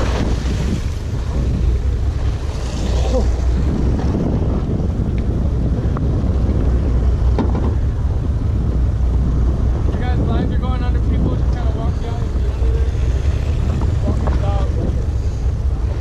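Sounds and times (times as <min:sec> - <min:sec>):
boat engine rumble: 0:00.0 - 0:16.0
water washing around hull: 0:00.0 - 0:16.0
wind buffeting microphone: 0:00.0 - 0:16.0.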